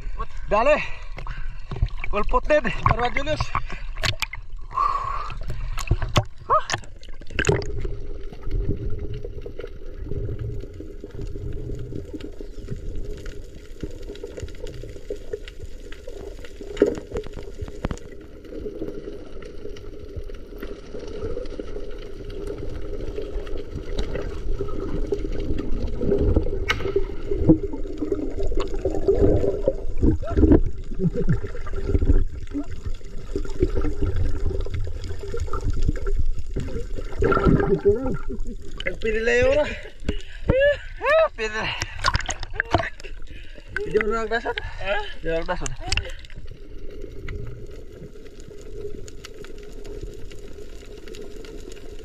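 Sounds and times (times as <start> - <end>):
underwater gurgling: 0.0 - 52.0
water splashing: 0.0 - 52.0.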